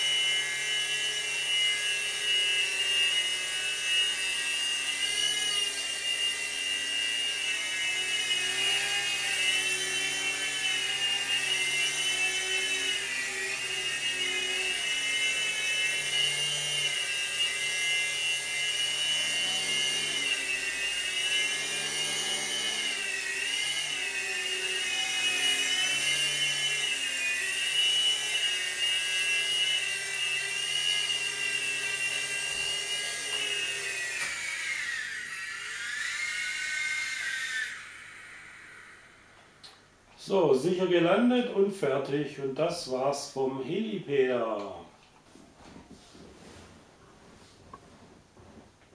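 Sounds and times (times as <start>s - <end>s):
toy helicopter rotor whine: 0.0s - 39.8s.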